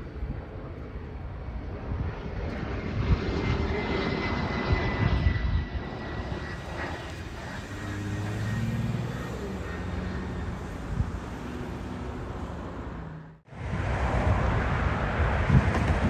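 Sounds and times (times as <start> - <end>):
jet airliner engine rumble: 0.0 - 16.0
jet engine high whine: 0.0 - 16.0.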